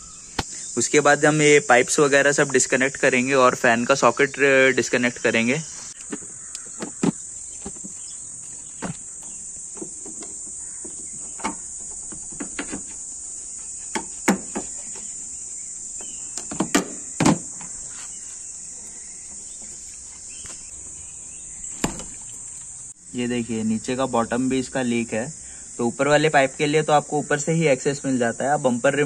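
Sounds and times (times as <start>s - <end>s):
steady high-pitched hiss: 0.0s - 29.0s.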